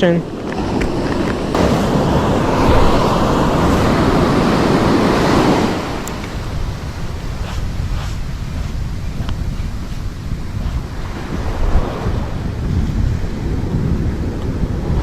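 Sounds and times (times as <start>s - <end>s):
wind rumbling on microphone: 0.0s - 15.0s
ocean wave breaking: 0.6s - 12.7s.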